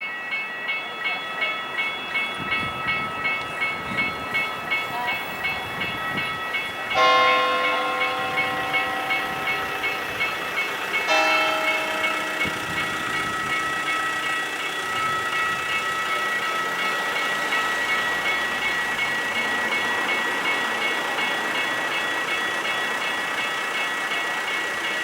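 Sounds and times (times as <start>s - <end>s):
level crossing bell ringing: 0.0s - 25.0s.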